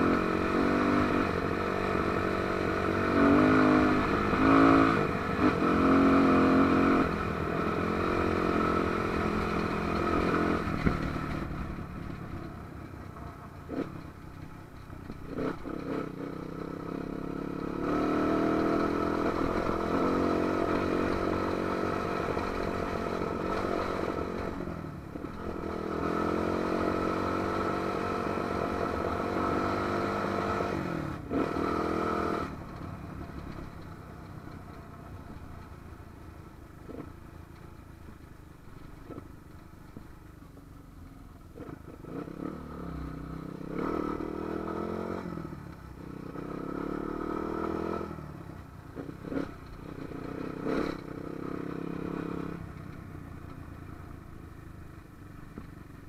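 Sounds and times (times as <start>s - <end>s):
motorcycle engine revving: 0.0s - 38.0s, 41.5s - 56.0s.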